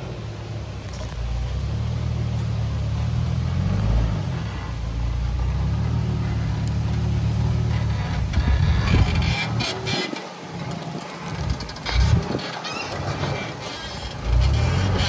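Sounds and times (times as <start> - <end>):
car engine at low revs: 0.0 - 15.0.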